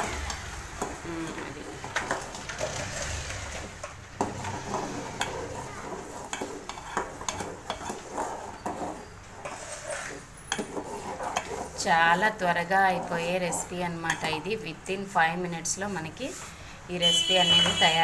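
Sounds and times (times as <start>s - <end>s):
spoon stirring boiling water: 0.0s - 16.4s.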